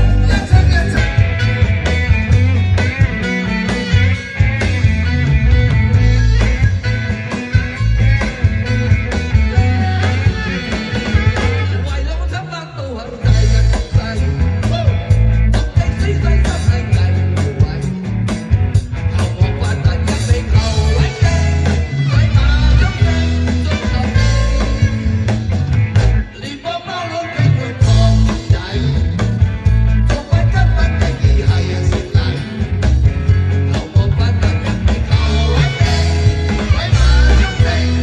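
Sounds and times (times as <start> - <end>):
drum beats: 0.0 - 12.1, 13.2 - 26.6, 27.4 - 38.0
electric guitar: 0.0 - 38.0
heavy bass: 0.0 - 38.0
live rock band playing: 0.0 - 38.0.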